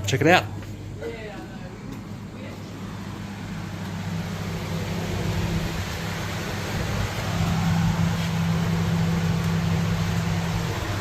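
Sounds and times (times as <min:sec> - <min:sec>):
fan noise: 0:00.0 - 0:11.0
refrigeration unit humming: 0:00.0 - 0:11.0.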